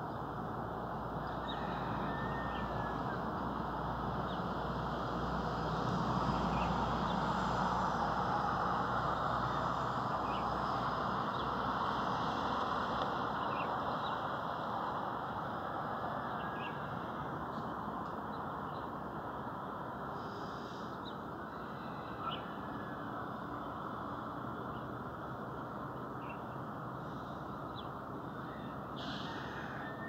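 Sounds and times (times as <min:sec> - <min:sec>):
outdoor background hum: 0:00.0 - 0:30.0.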